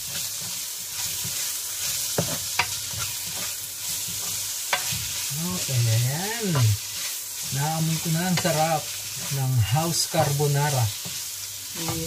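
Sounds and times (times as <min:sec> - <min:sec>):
spatula tapping pan: 0:00.0 - 0:05.7, 0:06.3 - 0:12.0
meat sizzling in oil: 0:00.0 - 0:12.0.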